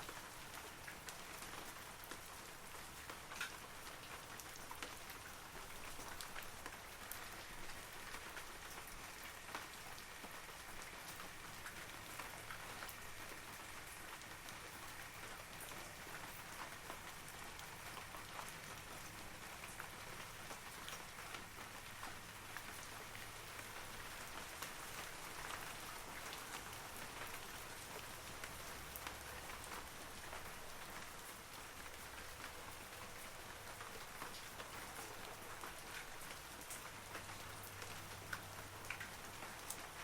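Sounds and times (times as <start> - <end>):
rain pattering on leaves: 0.0 - 40.0.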